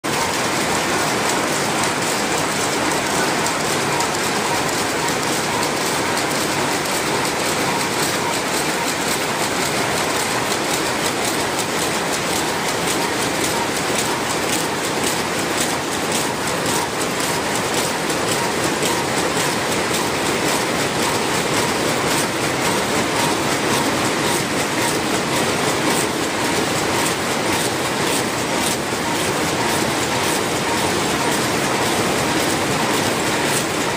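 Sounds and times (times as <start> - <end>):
weaving looms clattering: 0.0 - 33.9.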